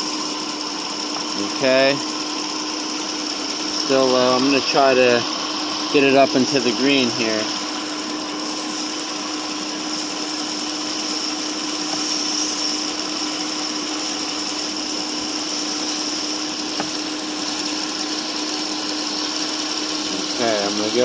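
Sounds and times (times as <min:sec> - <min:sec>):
car engine idling: 0:00.0 - 0:21.0
high whine: 0:00.0 - 0:21.0.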